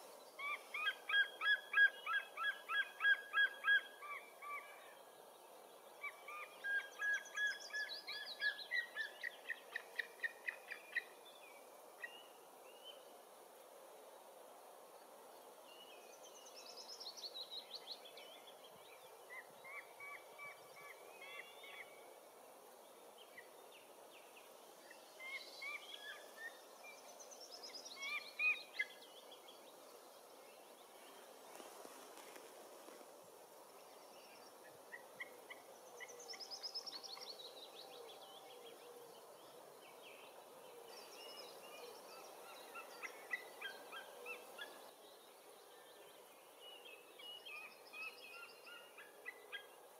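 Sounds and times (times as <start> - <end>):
light outdoor hiss: 0.0 - 49.9.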